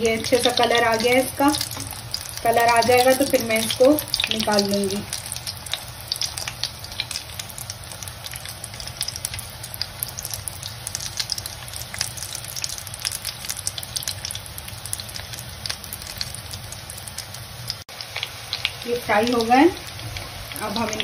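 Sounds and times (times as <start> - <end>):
hot oil sizzling and popping: 0.0 - 21.0.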